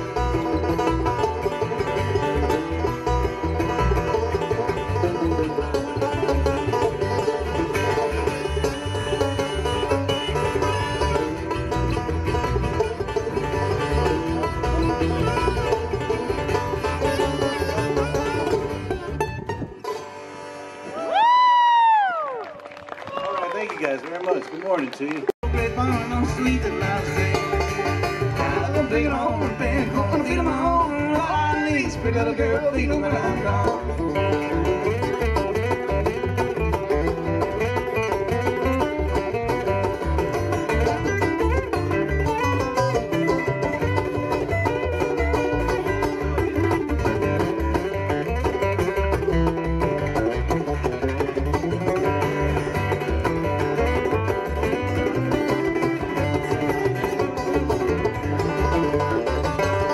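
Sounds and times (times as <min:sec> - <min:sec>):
plucked upright bass: 0:00.0 - 0:21.1, 0:25.4 - 0:59.9
banjo picking: 0:00.0 - 0:21.4, 0:25.4 - 0:59.9
acoustic guitar: 0:00.0 - 0:21.6, 0:25.4 - 0:59.9.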